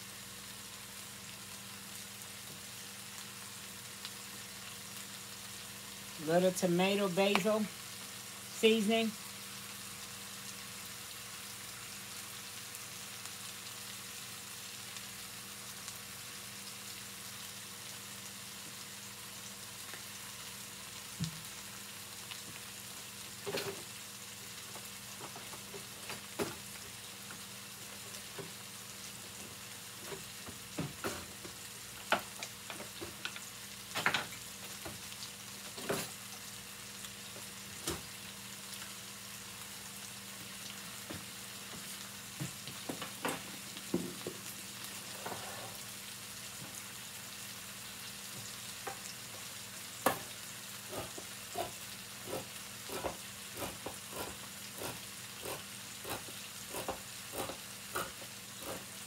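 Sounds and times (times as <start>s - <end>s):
chicken sizzling in a skillet: 0.0s - 59.0s.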